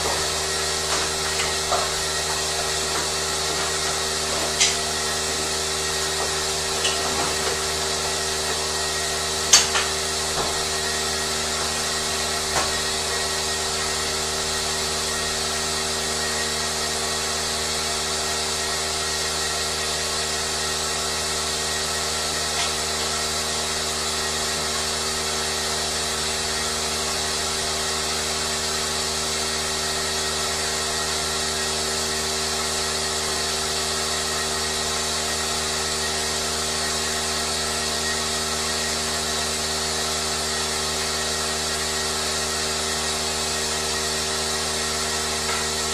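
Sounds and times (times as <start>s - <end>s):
steady machine hum: 0.0s - 45.9s.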